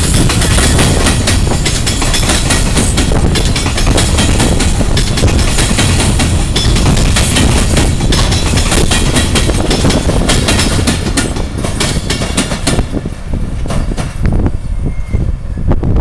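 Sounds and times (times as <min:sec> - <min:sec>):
wheels clattering over rail joints: 0:00.0 - 0:14.4
freight train rolling rumble: 0:00.0 - 0:16.0.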